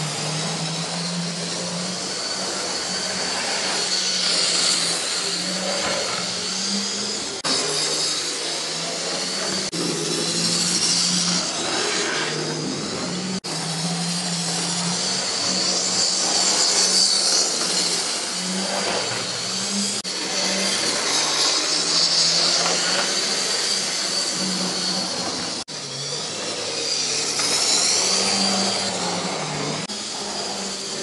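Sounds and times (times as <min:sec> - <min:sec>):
model train motors whirring: 0:00.0 - 0:31.0.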